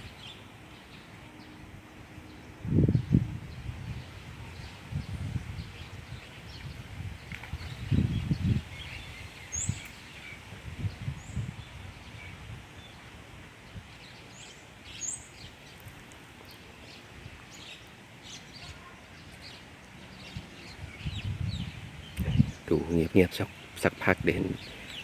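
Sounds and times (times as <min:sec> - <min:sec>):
small birds chirping: 0:00.0 - 0:01.6, 0:02.2 - 0:25.0
wind rumble on microphone: 0:01.3 - 0:23.1.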